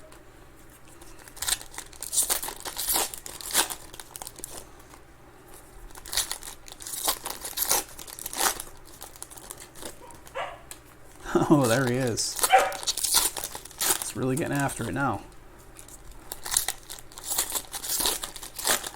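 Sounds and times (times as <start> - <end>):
foil wrappers crinkling and tearing: 0.7 - 18.9.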